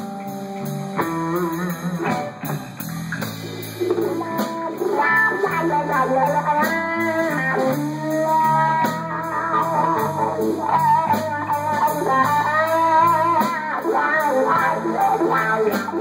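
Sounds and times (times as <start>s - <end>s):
bass notes: 0.0s - 16.0s
drums: 0.0s - 16.0s
electric guitar lead: 0.0s - 16.0s.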